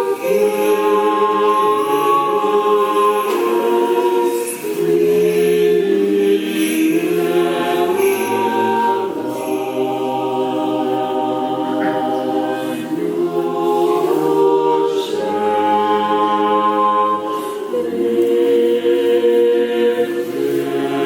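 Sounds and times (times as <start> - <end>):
choir singing a cappella chant: 0.0 - 21.0.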